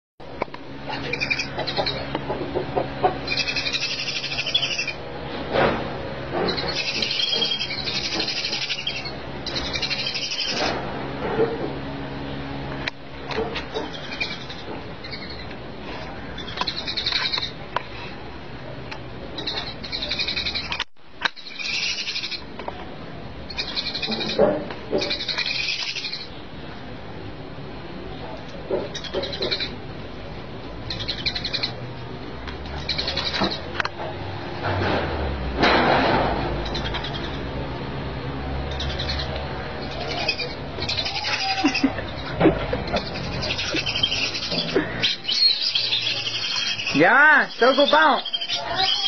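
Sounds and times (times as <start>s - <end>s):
birds chirping buzzy trills: 0.2s - 34.6s, 36.5s - 49.0s.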